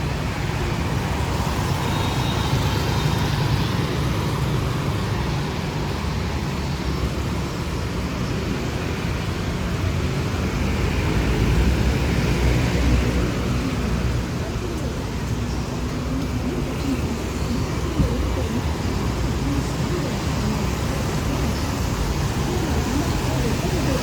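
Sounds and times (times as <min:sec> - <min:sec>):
cars passing: 0:00.0 - 0:24.0
motorbikes passing: 0:00.0 - 0:24.0.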